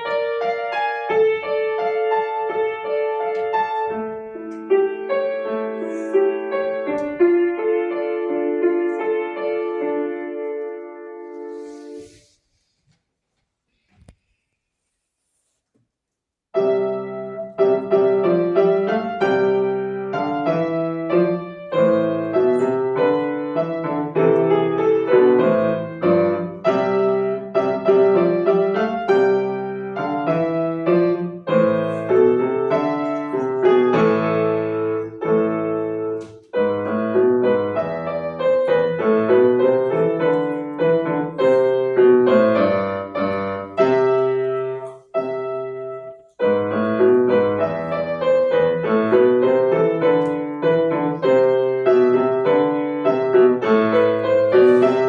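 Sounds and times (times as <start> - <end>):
solo piano piece: 0.0 - 12.3, 16.5 - 55.0.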